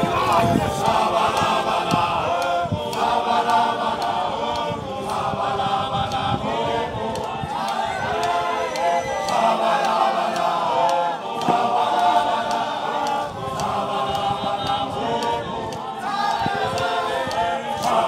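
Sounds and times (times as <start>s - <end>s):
men singing in chorus: 0.0s - 18.0s.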